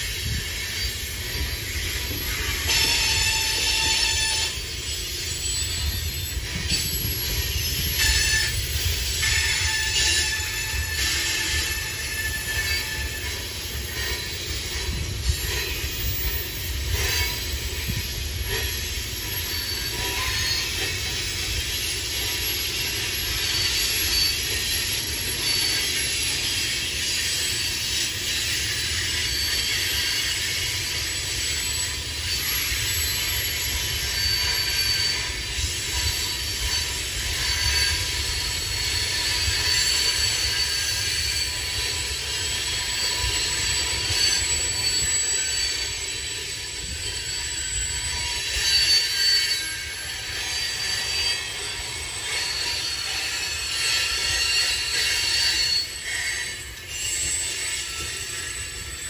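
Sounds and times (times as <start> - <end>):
high wheel squeal: 0.0 - 59.0
train wheels rumbling on rail: 0.0 - 59.0.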